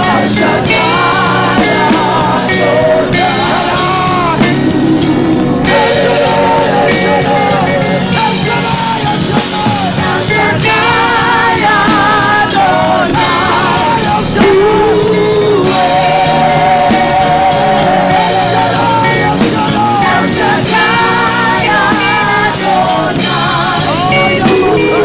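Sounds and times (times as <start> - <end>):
amplified band playing: 0.0 - 25.0
woman singing into a microphone: 0.0 - 25.0.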